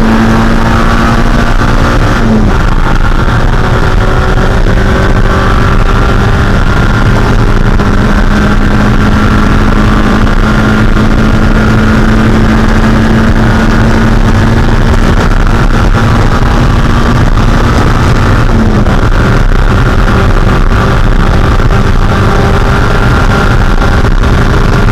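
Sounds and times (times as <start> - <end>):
car engine running at high revs: 0.0 - 24.9.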